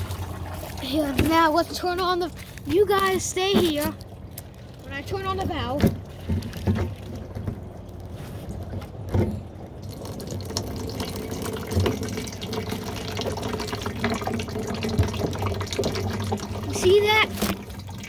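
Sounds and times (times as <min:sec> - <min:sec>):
water pouring and splashing: 0:00.0 - 0:18.0.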